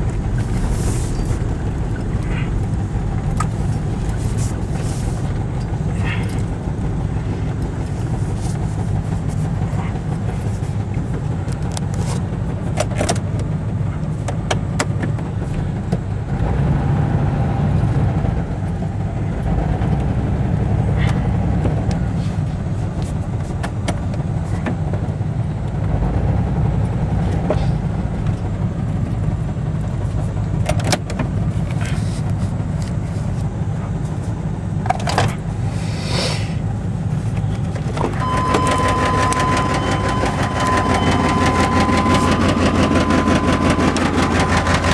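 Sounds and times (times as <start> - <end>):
engine exhaust drone: 0.0 - 44.9.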